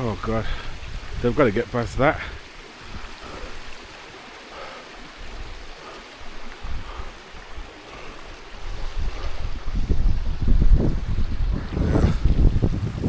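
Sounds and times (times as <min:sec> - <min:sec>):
wind buffeting microphone: 0:00.0 - 0:03.8, 0:05.2 - 0:13.0
water rushing over rocks: 0:00.0 - 0:13.0.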